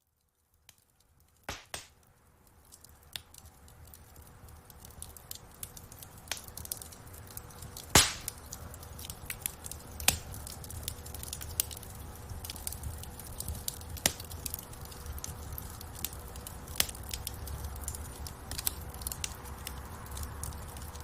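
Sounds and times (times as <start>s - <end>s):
low rumble of flame: 0.0s - 21.0s
wood fire crackling: 0.0s - 21.0s
sharp pops from fire: 0.6s - 21.0s.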